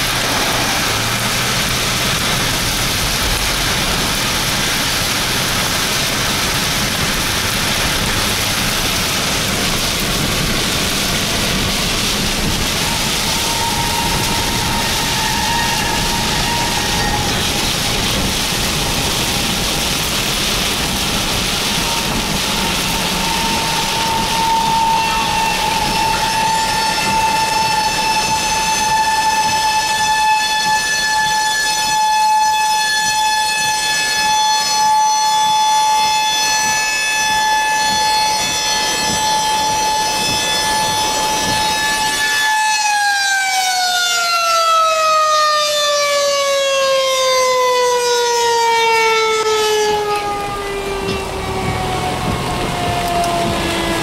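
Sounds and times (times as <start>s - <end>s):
heavy rain on car: 0.0s - 44.7s, 46.4s - 54.0s
warning siren high tone: 0.0s - 54.0s.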